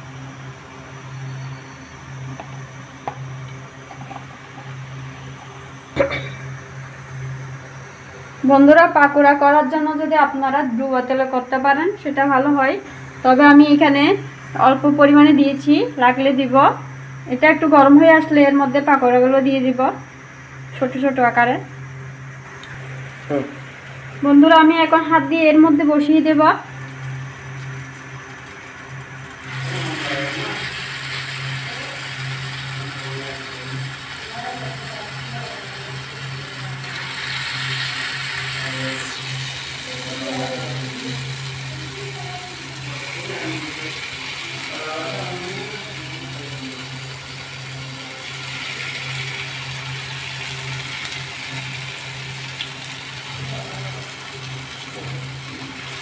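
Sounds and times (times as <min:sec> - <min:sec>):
batter frying in hot oil: 0:00.0 - 0:56.0
steady low hum: 0:00.0 - 0:56.0.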